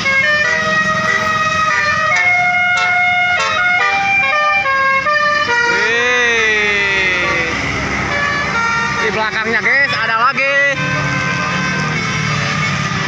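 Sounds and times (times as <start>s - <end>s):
bus musical horn: 0.0s - 5.9s, 6.7s - 9.1s, 9.7s - 13.0s
road noise: 0.0s - 13.0s.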